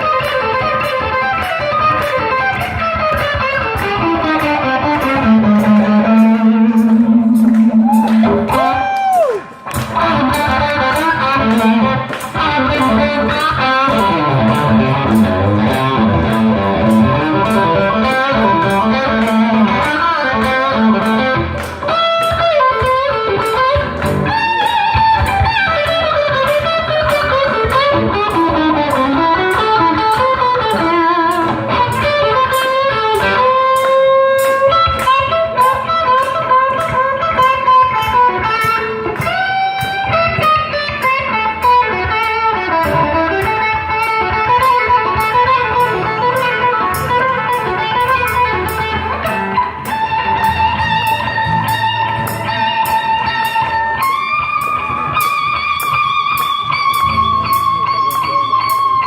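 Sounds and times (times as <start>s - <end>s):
bass: 0.0s - 59.0s
electric guitar solo: 0.0s - 59.0s.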